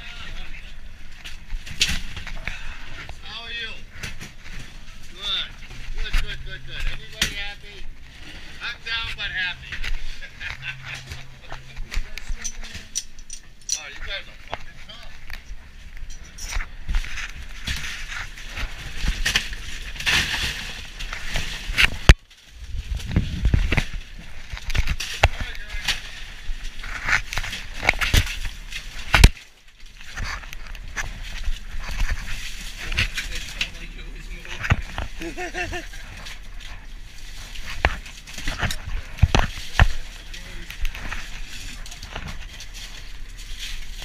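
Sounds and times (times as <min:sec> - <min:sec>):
crushed ice crunching and scraping: 0:01.3 - 0:15.8, 0:16.4 - 0:44.0.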